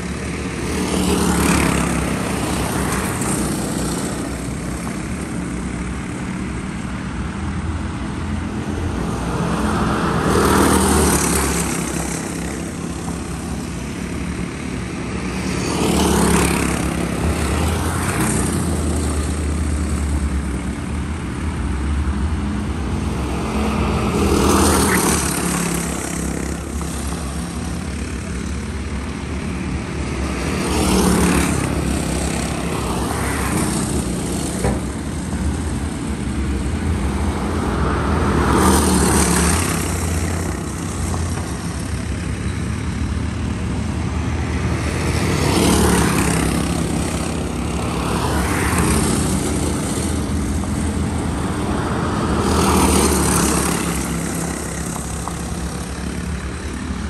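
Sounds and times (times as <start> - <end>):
racing kart engines droning: 0.0 - 57.0.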